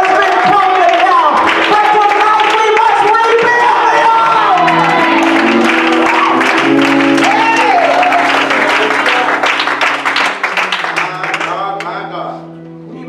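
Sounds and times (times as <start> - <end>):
congregation clapping: 0.0 - 12.1
sustained keyboard chords: 0.0 - 13.0.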